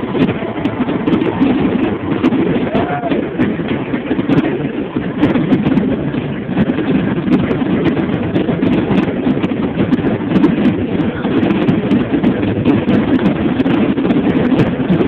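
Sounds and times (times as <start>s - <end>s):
fireworks booming: 0.0s - 15.0s
fireworks cracking and crackling: 0.0s - 15.0s.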